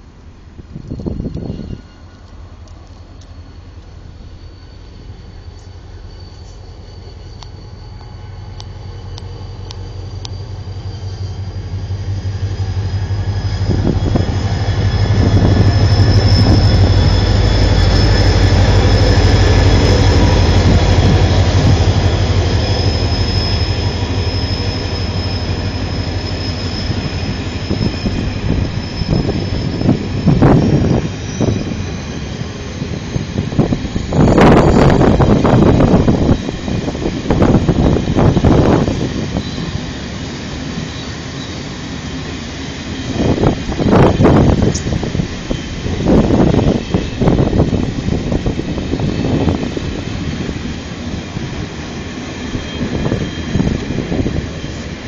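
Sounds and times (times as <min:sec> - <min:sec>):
train passing rumble: 0:00.0 - 0:55.0
high-pitched wheel squeal: 0:00.9 - 0:02.3, 0:03.2 - 0:55.0.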